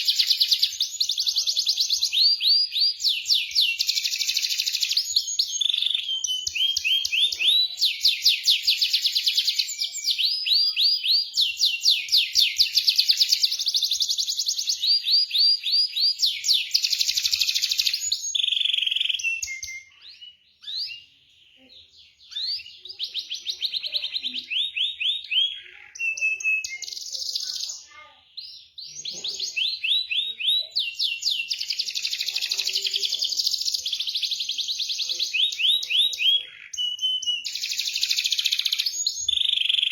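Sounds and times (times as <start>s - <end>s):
canary singing rolling trills: 0.0s - 39.9s.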